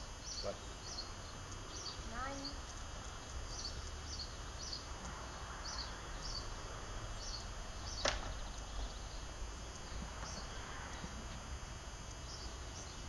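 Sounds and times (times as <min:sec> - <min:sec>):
steady low rumble: 0:00.0 - 0:13.0
small bird chirping: 0:00.2 - 0:11.1, 0:12.1 - 0:13.0.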